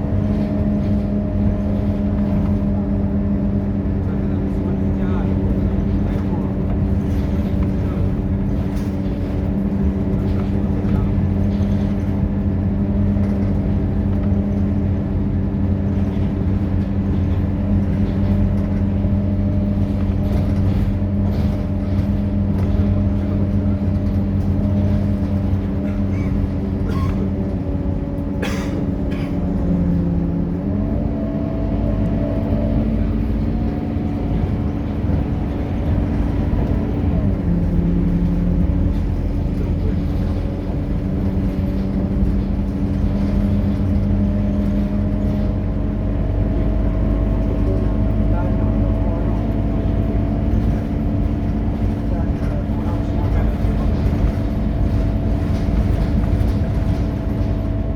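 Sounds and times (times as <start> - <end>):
bus diesel engine running: 0.0 - 57.9.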